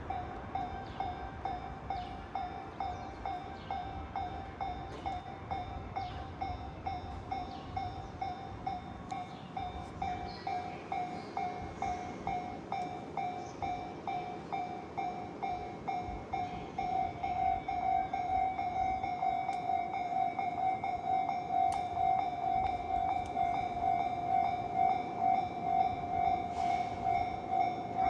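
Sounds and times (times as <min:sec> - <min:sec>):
level crossing bell clanging: 0:00.2 - 0:28.0.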